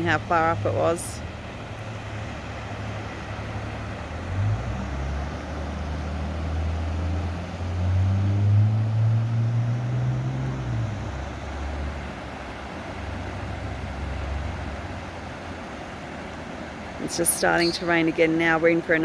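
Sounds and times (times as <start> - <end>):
floodwater rushing: 0.0 - 19.0
vehicle engine hum: 0.0 - 19.0.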